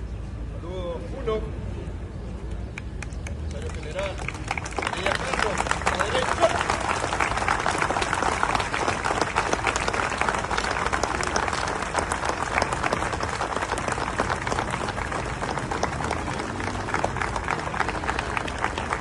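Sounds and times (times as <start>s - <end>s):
crowd applauding: 2.8s - 19.0s.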